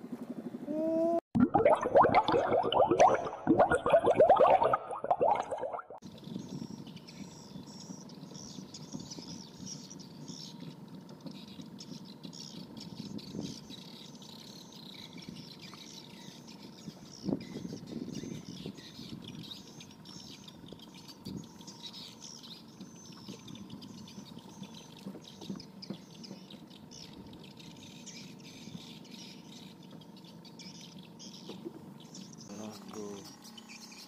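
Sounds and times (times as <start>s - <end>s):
birds chirping: 0.4s - 34.0s.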